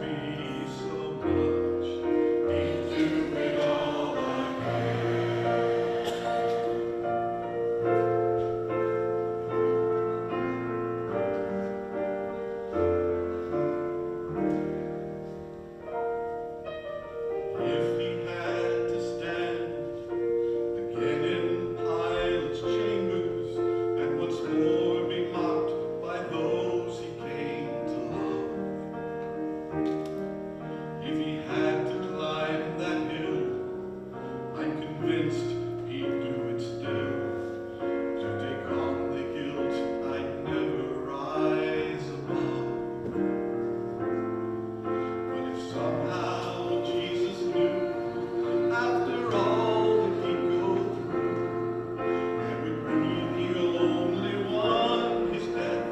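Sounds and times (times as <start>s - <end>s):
slow piano music: 0.0s - 55.9s.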